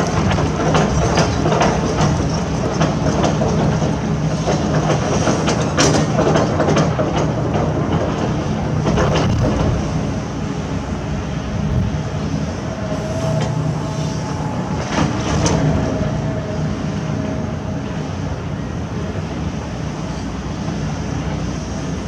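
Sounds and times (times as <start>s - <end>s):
diesel engine running: 0.0s - 5.6s, 7.5s - 20.4s.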